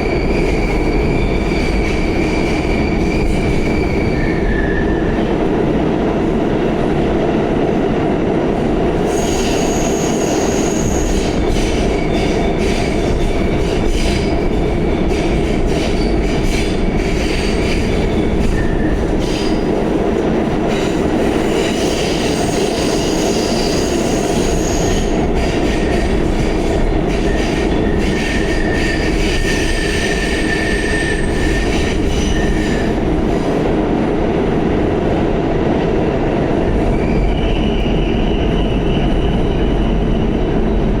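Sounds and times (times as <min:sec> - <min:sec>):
subway wheels rumbling on rail: 0:00.0 - 0:41.0.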